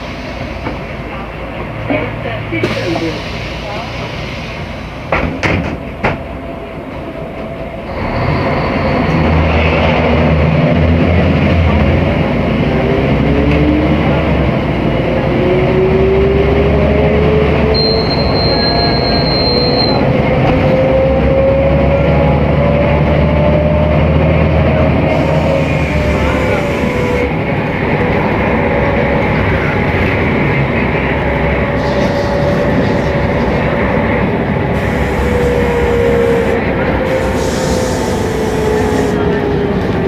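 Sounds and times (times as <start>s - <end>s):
bus engine accelerating with whine: 0.0s - 40.0s.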